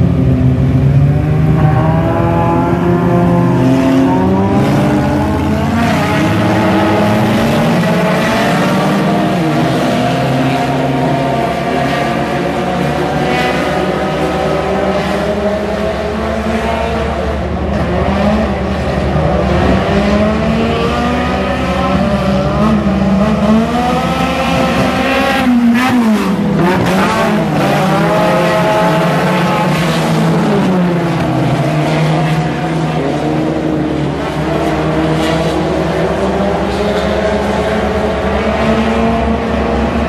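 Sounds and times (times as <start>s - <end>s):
race cars racing past: 0.0s - 40.0s.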